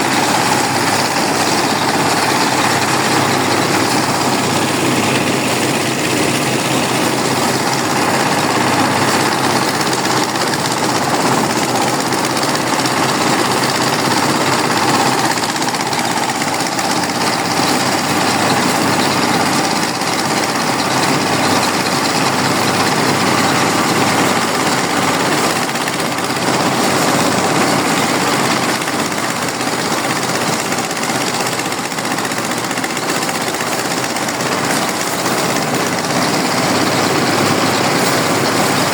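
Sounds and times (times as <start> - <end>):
harvest machinery engine running: 0.0 - 38.9.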